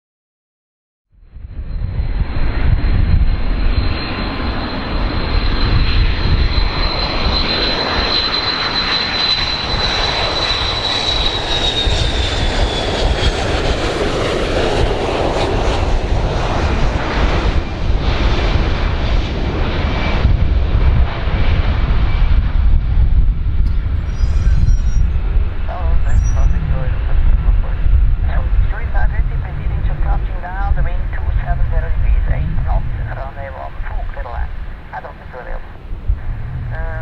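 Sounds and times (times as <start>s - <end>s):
high jet whine: 1.2s - 37.0s
jet engines on approach: 1.2s - 37.0s.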